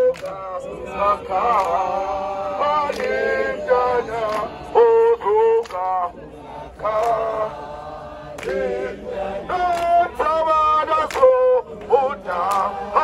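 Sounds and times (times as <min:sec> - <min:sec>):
man singing through a megaphone: 0:00.0 - 0:13.0
men singing a protest chant: 0:00.0 - 0:13.0.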